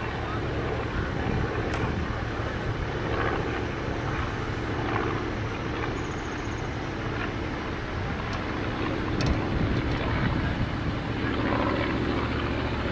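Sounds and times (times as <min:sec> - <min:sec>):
propeller plane engine flying overhead: 0:00.0 - 0:12.9.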